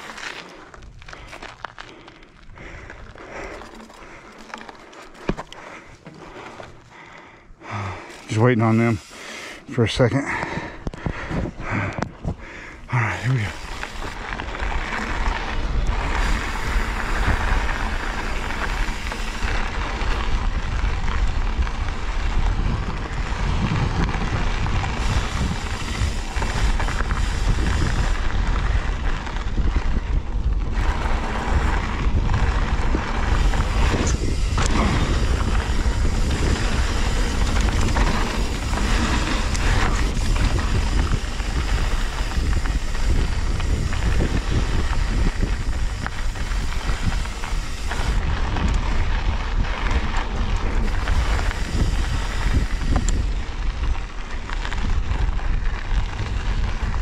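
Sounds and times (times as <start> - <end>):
bike clattering: 0.0 - 9.6, 10.4 - 57.0
tyres rolling on dirt and rock: 0.0 - 57.0
wind buffeting microphone: 10.3 - 57.0.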